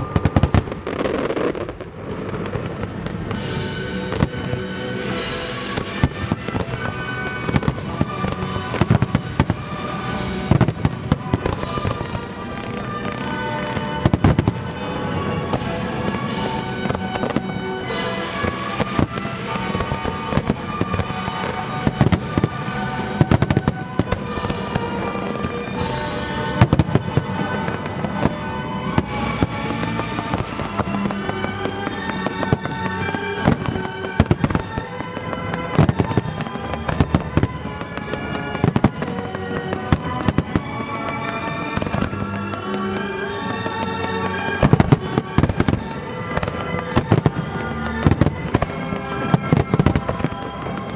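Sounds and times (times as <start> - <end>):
fireworks bursting: 0.0 - 50.9
music: 0.0 - 50.9.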